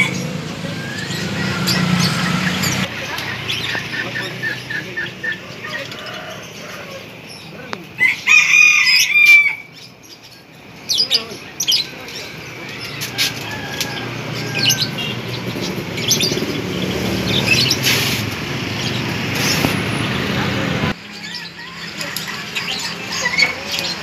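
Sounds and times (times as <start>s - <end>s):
birds squawking: 0.0s - 24.0s.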